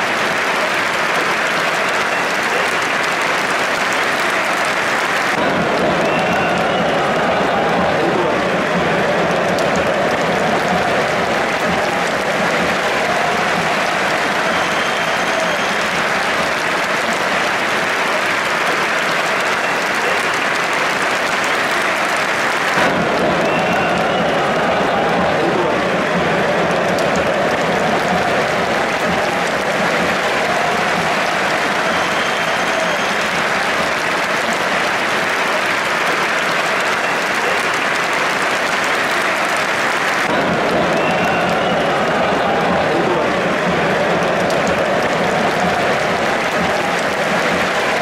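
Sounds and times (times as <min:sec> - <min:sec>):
crowd applauding: 0:00.0 - 0:48.0.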